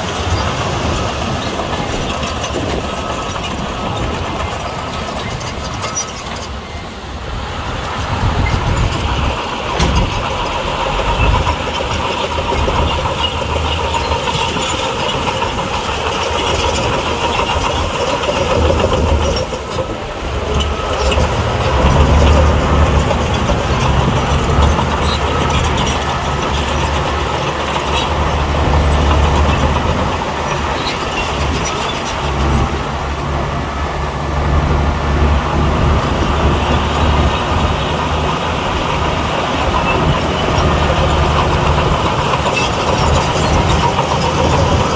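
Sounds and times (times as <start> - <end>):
heavy diesel machinery engine: 0.0 - 44.9.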